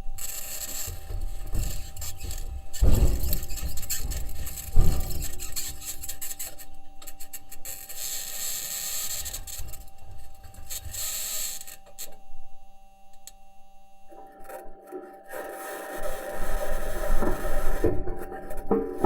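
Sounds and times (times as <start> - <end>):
wheels grinding over rock: 0.0 - 12.1, 15.2 - 19.0.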